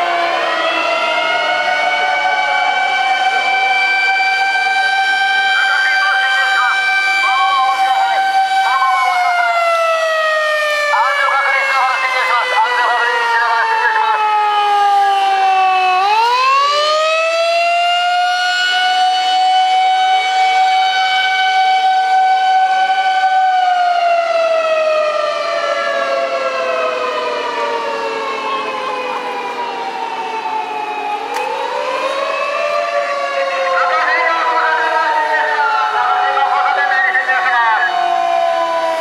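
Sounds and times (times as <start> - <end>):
fire engine siren wailing: 0.0 - 39.0.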